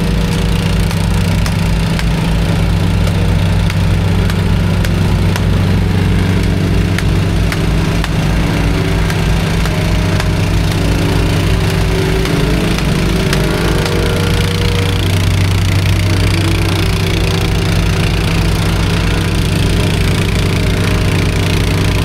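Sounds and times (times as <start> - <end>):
heavy equipment engine running: 0.0 - 22.0
sharp clicks: 0.0 - 22.0.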